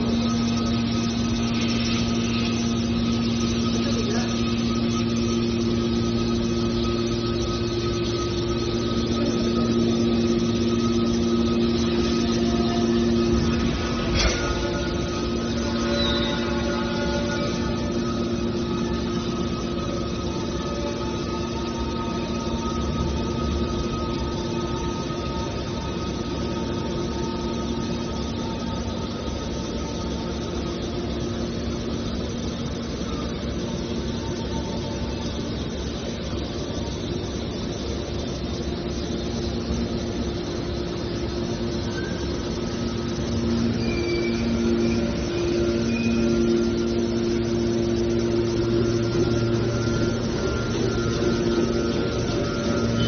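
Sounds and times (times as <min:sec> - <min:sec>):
hydraulic power unit engine drone: 0:00.0 - 0:53.0.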